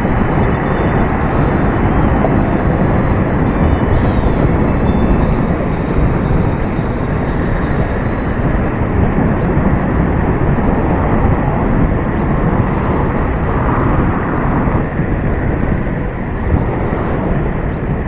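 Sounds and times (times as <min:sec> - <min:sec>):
road traffic rumble: 0:00.0 - 0:18.0
wind: 0:00.0 - 0:18.0.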